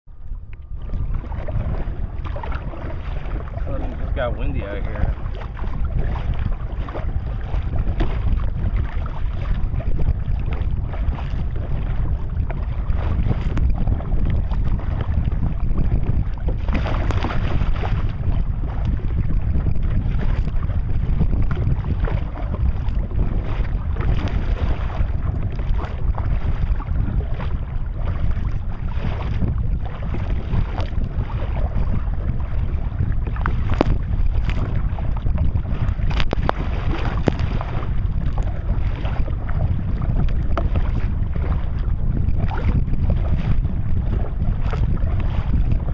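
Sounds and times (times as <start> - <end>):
waves splashing against kayak: 0.1 - 45.9
wind buffeting microphone: 0.1 - 45.9.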